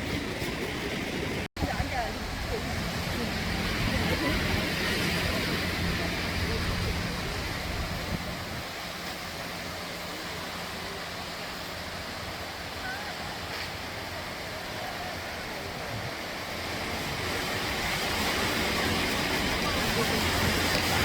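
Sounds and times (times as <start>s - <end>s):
surf breaking on beach: 0.0s - 21.0s.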